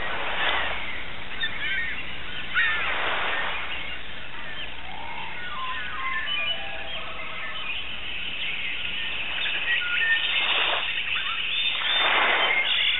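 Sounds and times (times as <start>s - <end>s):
birds chirping and whistling: 0.4s - 12.9s.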